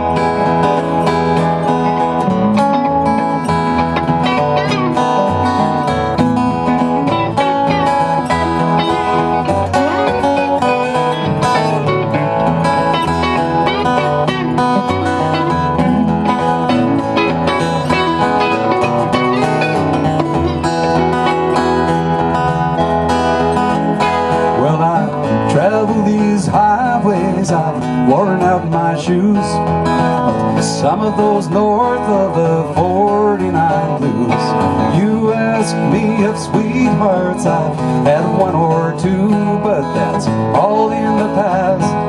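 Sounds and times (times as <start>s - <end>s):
country band playing: 0.0s - 42.0s
sliding lead guitar line: 0.0s - 42.0s
strummed acoustic guitar: 0.0s - 42.0s.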